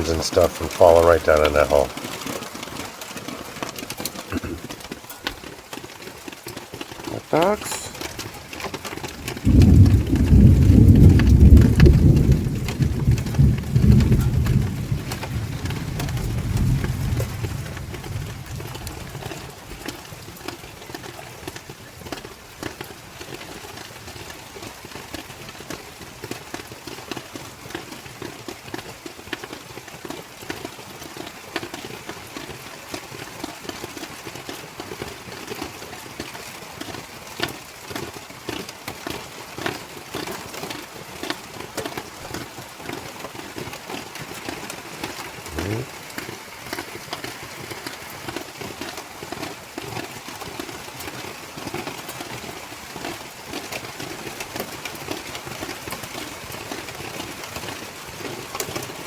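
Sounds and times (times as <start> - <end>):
rain patter on hard surfaces: 0.0 - 59.0.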